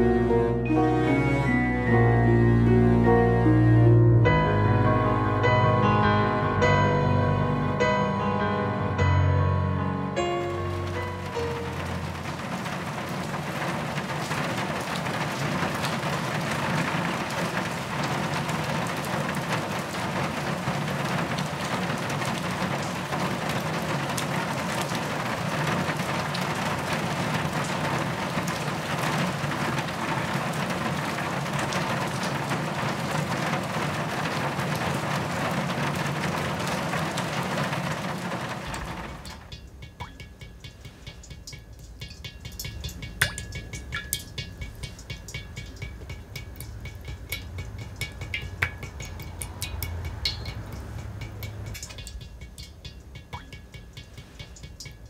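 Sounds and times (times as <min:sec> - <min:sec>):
steady rain falling: 0:10.2 - 0:55.0.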